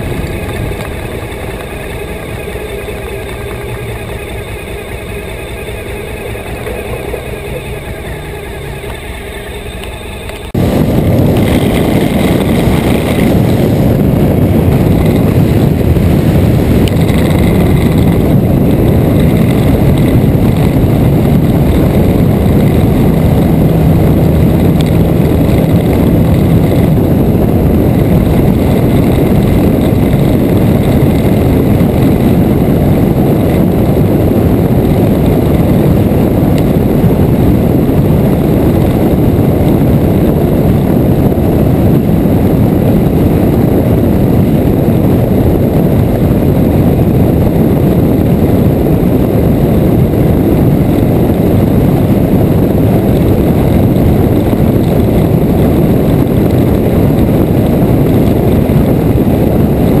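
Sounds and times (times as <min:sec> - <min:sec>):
motorcycle engine hum: 0:00.0 - 1:00.0
wind rush: 0:00.0 - 1:00.0.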